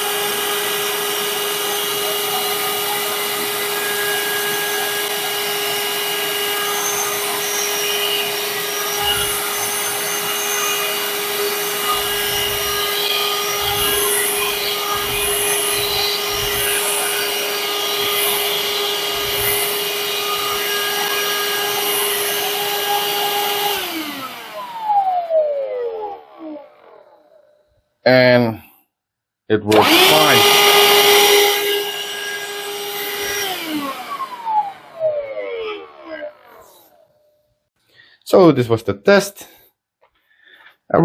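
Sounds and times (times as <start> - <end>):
handheld vacuum cleaner running: 0.0 - 27.3, 29.7 - 37.0.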